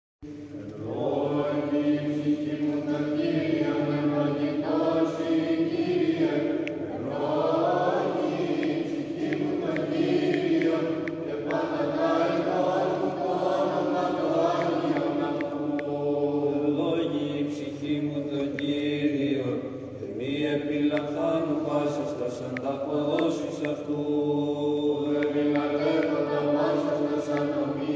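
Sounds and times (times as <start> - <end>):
voices chanting a slow melody: 0.2 - 27.9
held vocal drone: 0.3 - 27.9.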